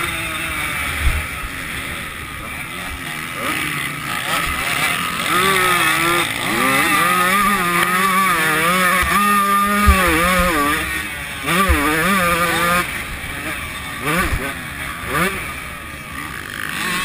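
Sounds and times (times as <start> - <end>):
motocross bike engine revving hard: 0.0 - 17.0.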